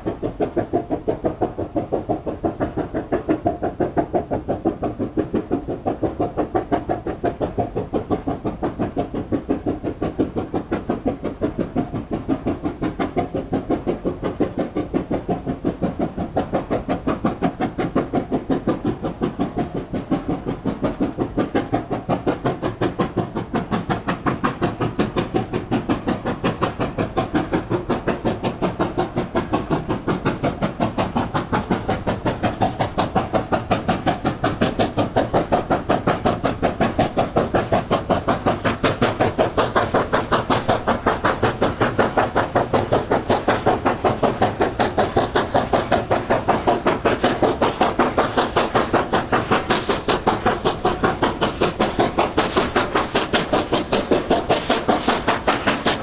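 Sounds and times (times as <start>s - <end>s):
steam locomotive exhaust beating: 0.0s - 56.0s.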